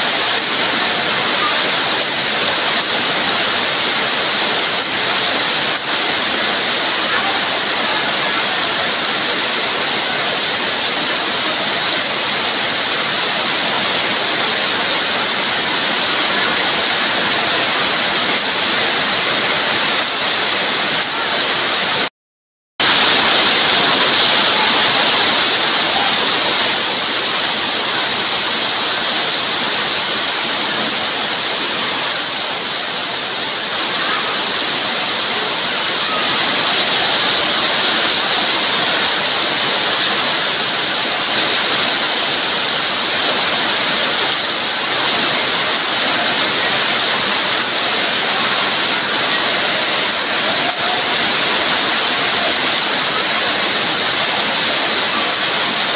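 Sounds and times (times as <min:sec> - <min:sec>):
heavy rain: 0:00.0 - 0:22.1, 0:22.8 - 0:55.9.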